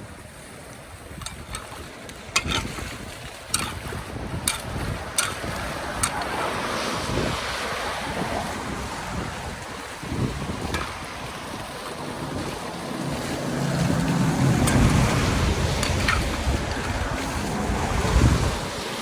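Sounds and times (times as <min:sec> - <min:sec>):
floodwater rushing: 0:00.0 - 0:19.0
wind on microphone: 0:00.0 - 0:19.0
sharp knocks or splashes: 0:01.2 - 0:09.0, 0:10.4 - 0:18.6.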